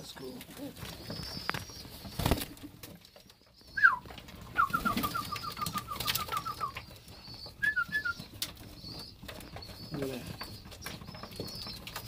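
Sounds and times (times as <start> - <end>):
pigeons squeaky begging calls: 0.2 - 12.0.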